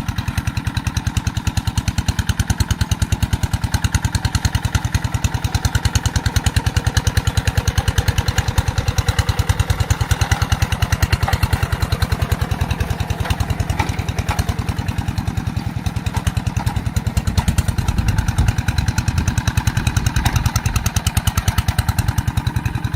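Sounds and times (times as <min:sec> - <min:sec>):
tractor engine chugging: 0:00.0 - 0:22.9.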